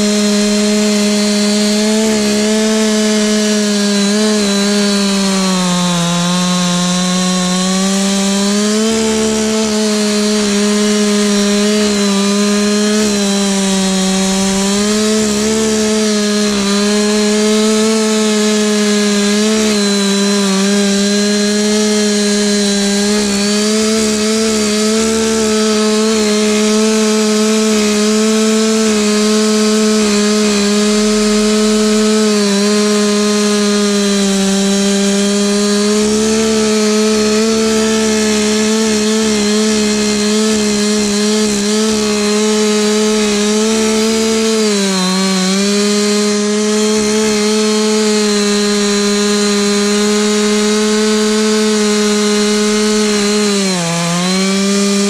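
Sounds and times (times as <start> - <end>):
chainsaw cutting log at full throttle: 0.0 - 55.0.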